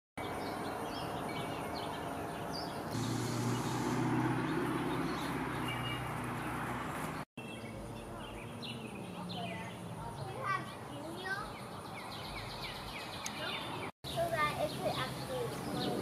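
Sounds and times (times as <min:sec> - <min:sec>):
outdoor background noise: 0:00.2 - 0:16.0
small birds chirping: 0:00.2 - 0:16.0.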